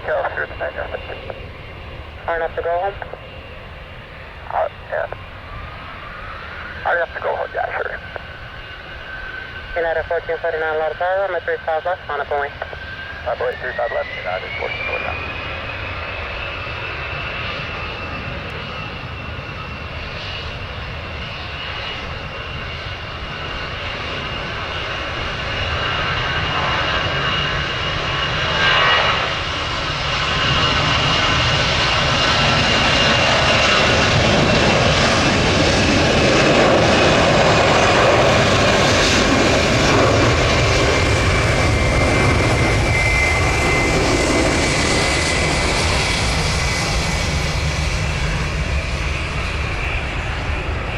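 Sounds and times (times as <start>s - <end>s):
jet engines with high whine: 0.0s - 50.9s.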